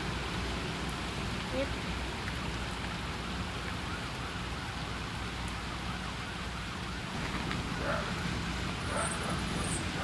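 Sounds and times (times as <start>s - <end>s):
low traffic rumble: 0.0s - 10.0s
water hissing on street: 0.0s - 10.0s.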